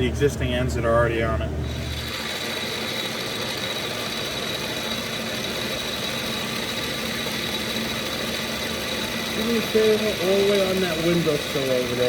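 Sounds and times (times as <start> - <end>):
metal lathe humming and whirring: 1.5 - 12.0.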